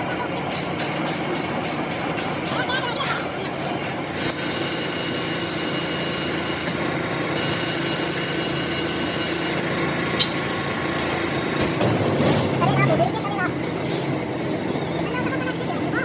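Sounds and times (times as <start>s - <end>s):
machine running with whining tones: 0.0s - 16.0s.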